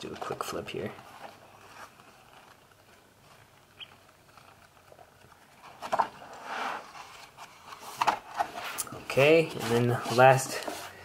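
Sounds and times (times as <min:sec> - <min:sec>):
book pages rustling: 0:00.0 - 0:11.0.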